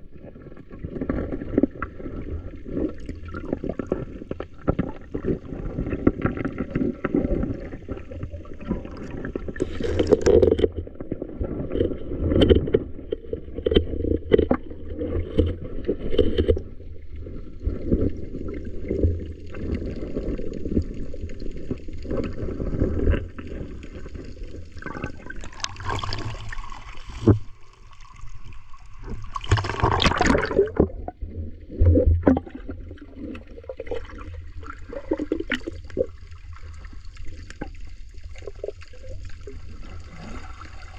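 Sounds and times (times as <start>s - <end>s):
underwater water gurgling: 0.0s - 40.9s
water splashing: 0.9s - 40.9s.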